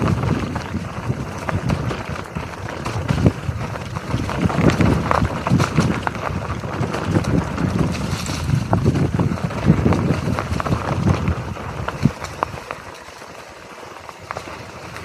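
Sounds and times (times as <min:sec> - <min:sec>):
bike rattling and knocking: 0:00.0 - 0:15.0
tyres crunching over dirt: 0:00.0 - 0:15.0
wind noise on microphone: 0:00.0 - 0:15.0.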